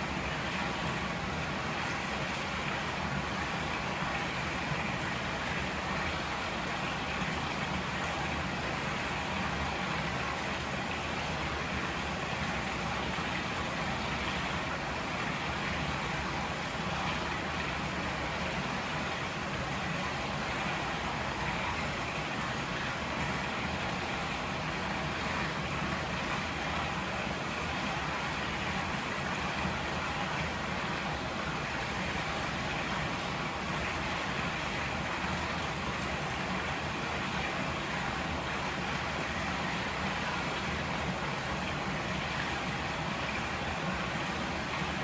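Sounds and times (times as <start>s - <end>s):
river water flowing: 0.0s - 45.0s.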